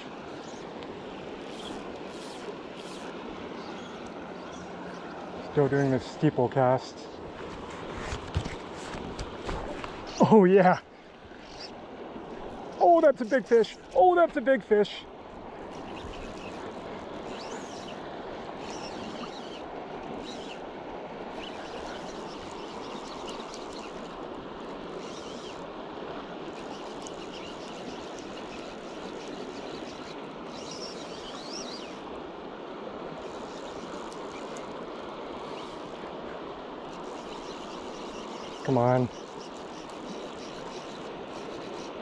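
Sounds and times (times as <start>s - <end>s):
river current rushing: 0.0s - 42.0s.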